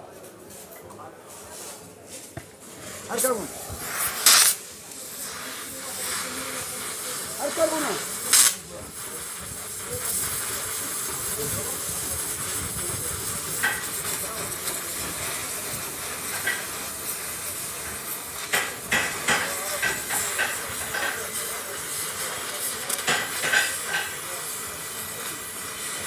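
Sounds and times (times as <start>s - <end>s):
gas torch flame hissing: 2.2s - 26.0s.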